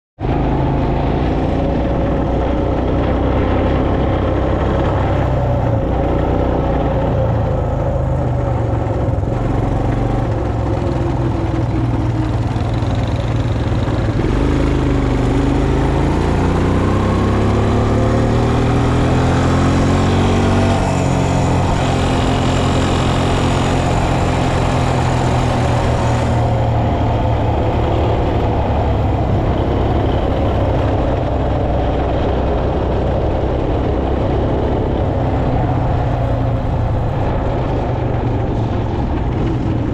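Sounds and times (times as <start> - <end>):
quad bike engine running: 0.2 - 39.9.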